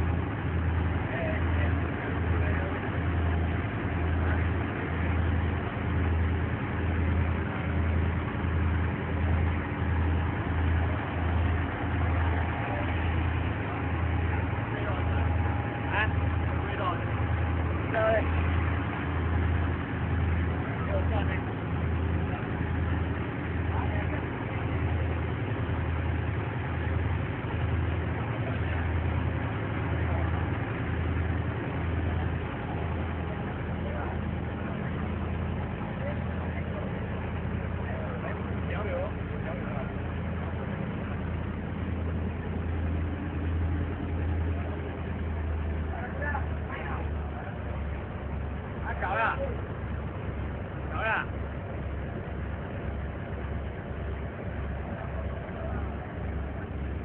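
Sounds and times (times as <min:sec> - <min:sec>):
boat engine droning: 0:00.0 - 0:57.0
rush of wind and water: 0:00.0 - 0:57.0.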